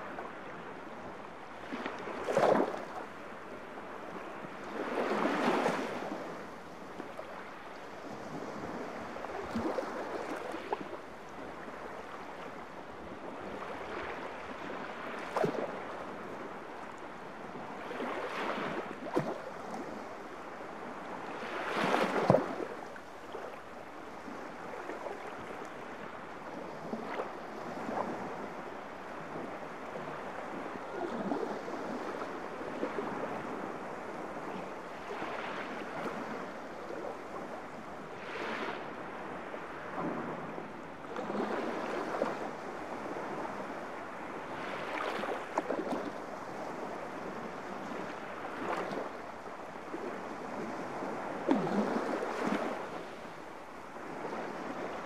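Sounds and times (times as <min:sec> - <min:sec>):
small waves washing on beach: 0:00.0 - 0:55.0.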